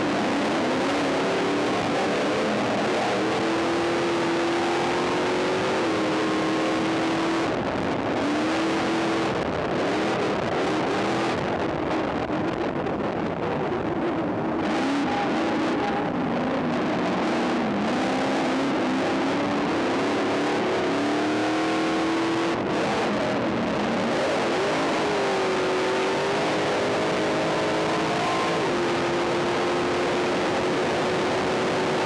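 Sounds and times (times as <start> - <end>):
race truck engine at full throttle: 0.0 - 32.0
wind and road noise: 0.0 - 32.0.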